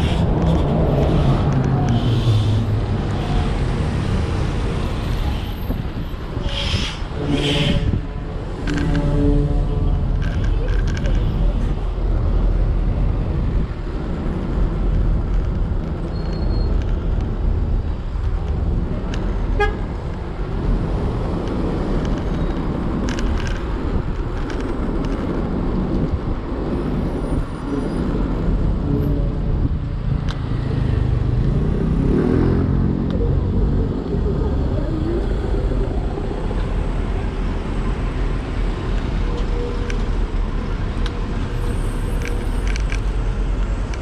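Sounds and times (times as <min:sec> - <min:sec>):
electric scooter road rumble: 0:00.0 - 0:44.0.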